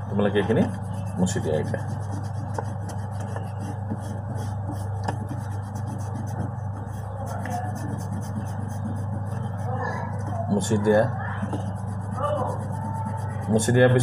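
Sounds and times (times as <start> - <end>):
eraser rubbing on paper: 0.5 - 14.0.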